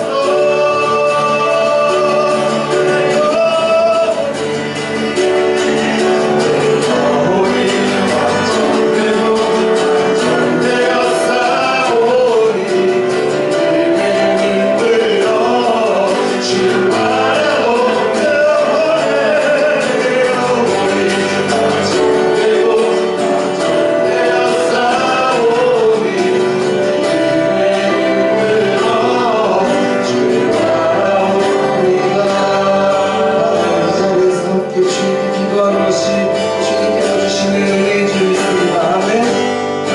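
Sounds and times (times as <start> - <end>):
group singing worship song: 0.0 - 39.9
instrumental accompaniment: 0.0 - 39.9.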